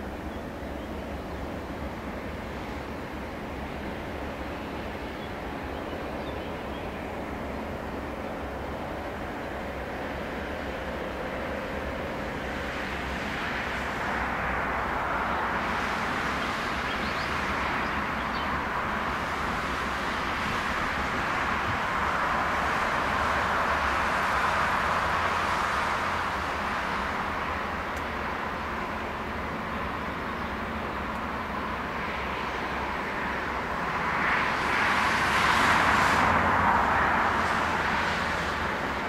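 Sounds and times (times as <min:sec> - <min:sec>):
passing vehicle: 0:00.0 - 0:39.0.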